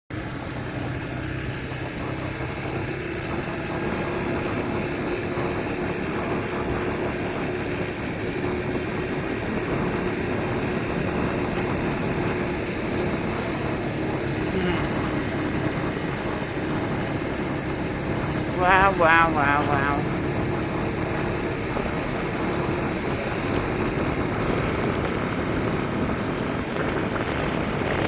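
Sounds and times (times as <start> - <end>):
motor engine running: 0.1 - 28.0.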